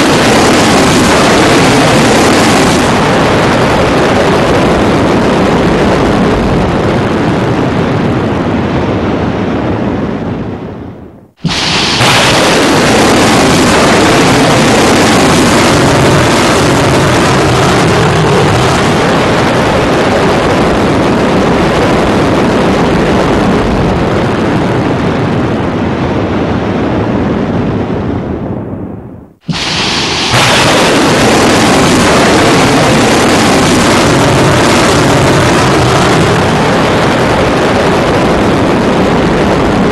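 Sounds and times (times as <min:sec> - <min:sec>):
rocket motor roaring: 0:00.0 - 0:09.6, 0:11.4 - 0:25.8, 0:29.4 - 0:39.9.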